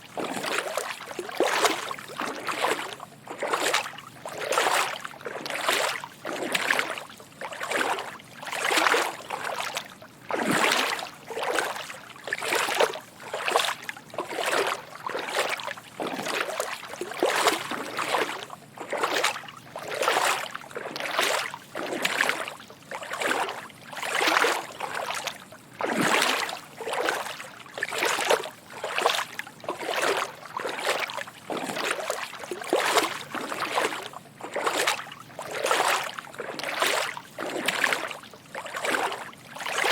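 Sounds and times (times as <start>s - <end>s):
footsteps splashing in shallow water: 0.0s - 39.9s.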